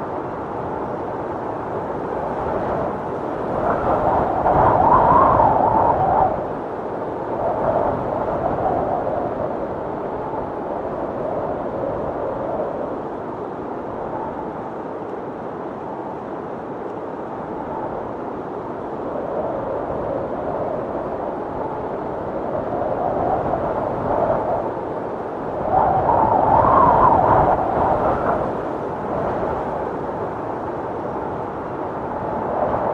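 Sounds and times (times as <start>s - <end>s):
storm wind gusting: 0.0s - 14.7s, 17.2s - 32.9s.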